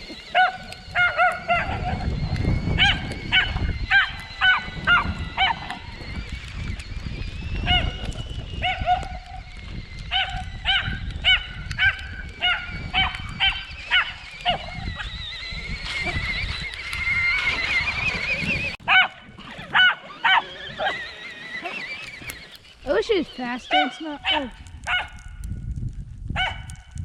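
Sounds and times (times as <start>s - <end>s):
electric motor whine: 0.0s - 24.7s.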